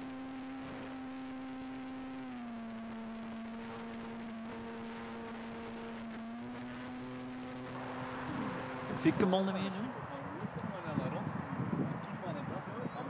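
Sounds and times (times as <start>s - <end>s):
electric motor and propeller hum: 0.0s - 13.0s.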